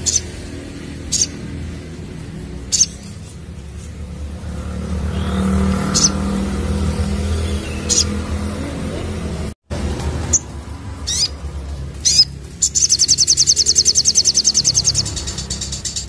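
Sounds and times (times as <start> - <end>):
bird chirping: 0.0 - 1.9, 2.6 - 8.9, 10.3 - 16.0
vehicle engine hum: 0.0 - 16.0.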